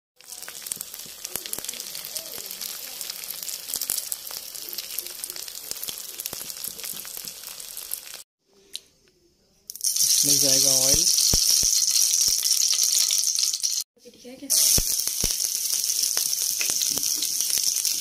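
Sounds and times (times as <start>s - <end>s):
egg sizzling and popping in oil: 0.2s - 8.3s, 9.7s - 13.9s, 14.5s - 18.0s.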